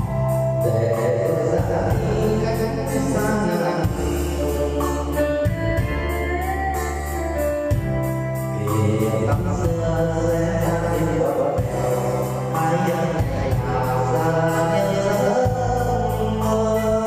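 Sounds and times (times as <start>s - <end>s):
electronic organ music: 0.0s - 17.0s.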